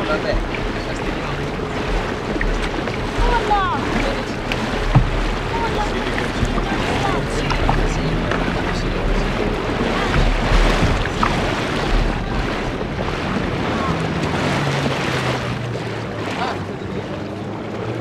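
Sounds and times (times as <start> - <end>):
heavy low rumble: 0.0 - 18.0
low motor hum: 0.0 - 18.0
water splashing along kayak hull: 0.0 - 18.0
wind buffeting microphone: 0.0 - 18.0.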